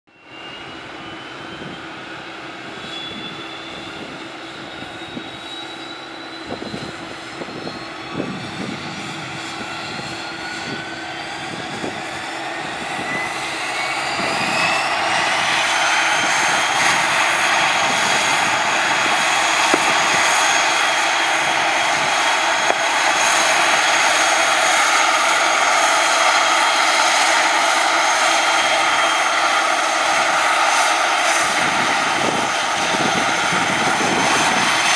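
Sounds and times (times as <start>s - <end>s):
turboprop engine whine: 0.1s - 34.9s
propeller noise: 6.4s - 34.9s.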